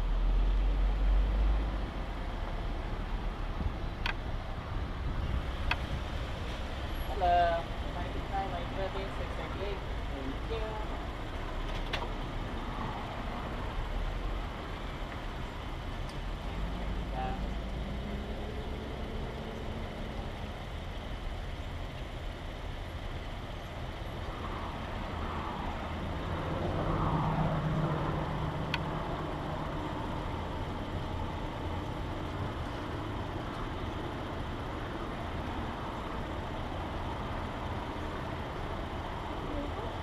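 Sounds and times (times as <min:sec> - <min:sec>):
outdoor vehicle noise: 0:00.0 - 0:40.0
car idling: 0:01.8 - 0:40.0.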